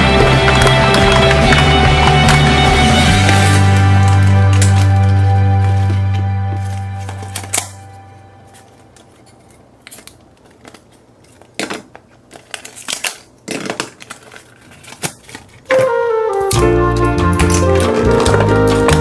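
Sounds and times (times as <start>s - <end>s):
crinkling craft materials: 0.0s - 19.0s.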